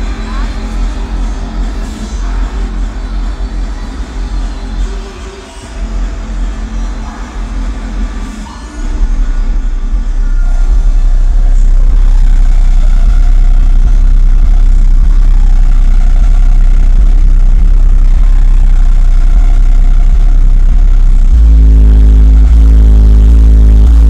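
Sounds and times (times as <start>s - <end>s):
deep bass tone from subwoofers: 0.0s - 24.0s
music: 0.0s - 24.0s.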